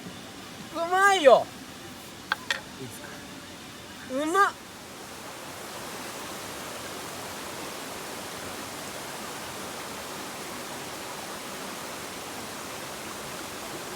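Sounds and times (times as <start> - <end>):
river flowing: 0.0 - 13.9.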